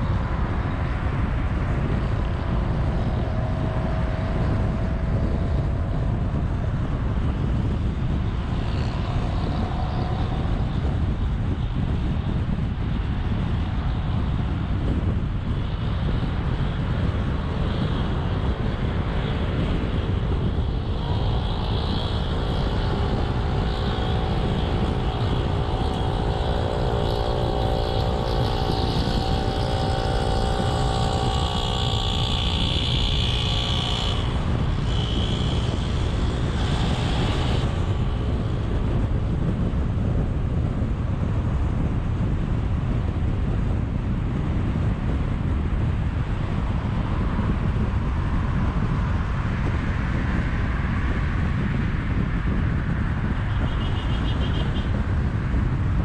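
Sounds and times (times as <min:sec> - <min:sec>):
pitched hum: 0:00.0 - 0:56.0
road and wind rumble: 0:00.0 - 0:56.0.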